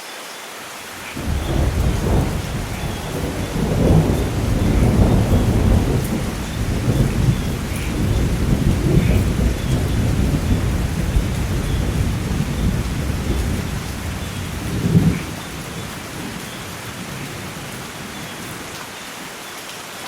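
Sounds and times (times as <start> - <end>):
heavy rain: 0.0 - 20.0
thunder rumbling: 1.0 - 18.7.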